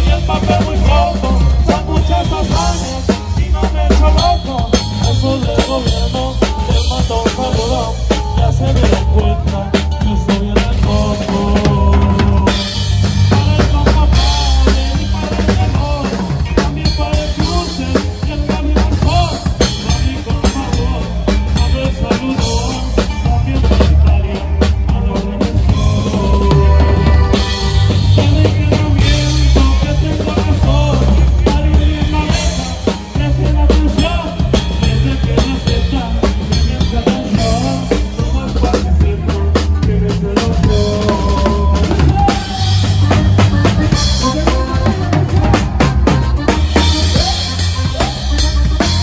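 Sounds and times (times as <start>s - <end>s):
drum kit beat: 0.0s - 49.0s
live band playing: 0.0s - 49.0s
low bass line: 0.0s - 49.0s.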